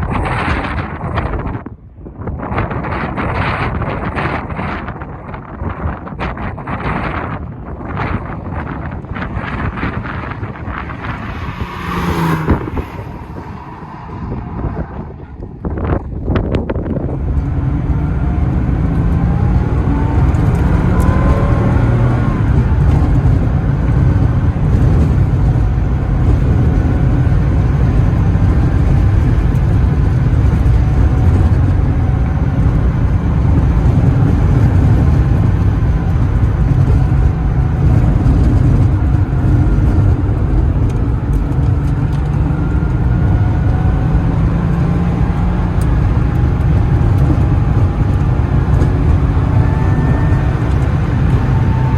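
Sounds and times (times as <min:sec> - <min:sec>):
road noise: 0:00.0 - 0:51.9
car engine accelerating: 0:06.3 - 0:51.9.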